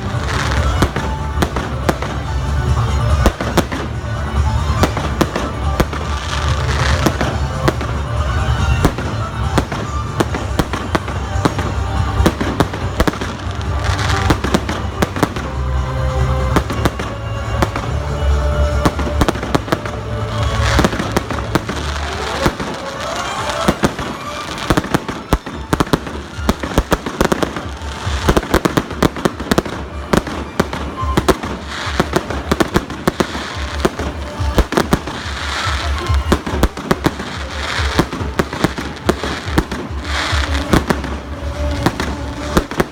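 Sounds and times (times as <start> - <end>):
fireworks bangs and crackling: 0.0 - 42.9
music: 0.0 - 42.9.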